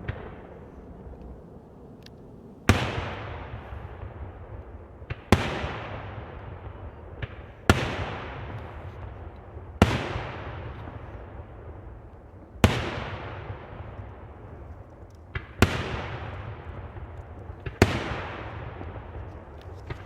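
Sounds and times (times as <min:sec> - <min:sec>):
fireworks bangs with echoing rumble: 0:00.0 - 0:20.0
small firework pops: 0:02.0 - 0:20.0.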